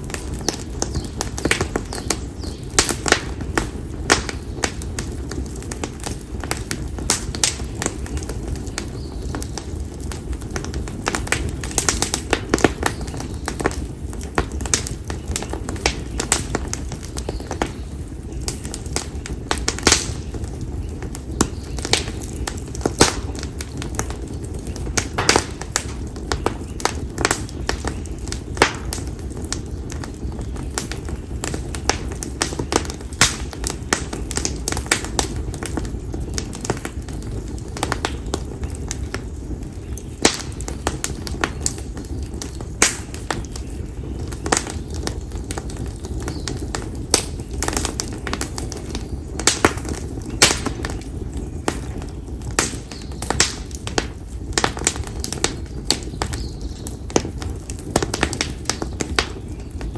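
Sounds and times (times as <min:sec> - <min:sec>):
firewood crackling and popping: 0:00.0 - 0:59.9
low rush of flame: 0:00.0 - 0:59.9.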